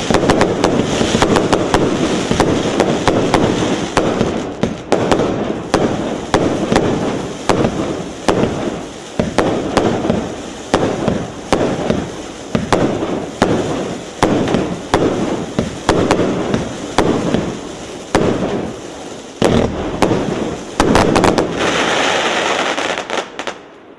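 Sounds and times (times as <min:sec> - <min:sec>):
firework shots launching: 0:00.0 - 0:23.6
firework bursts overhead: 0:00.0 - 0:23.9.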